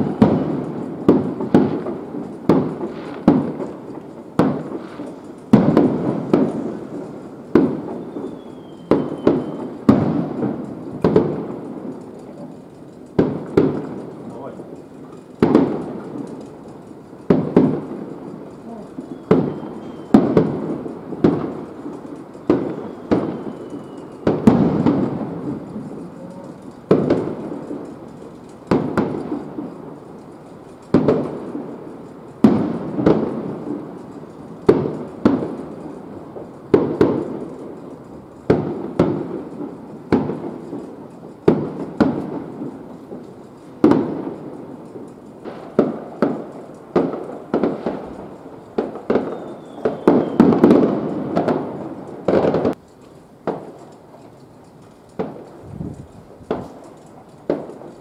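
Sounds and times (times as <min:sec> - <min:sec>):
firework shells bursting with echo: 0:00.0 - 0:58.0.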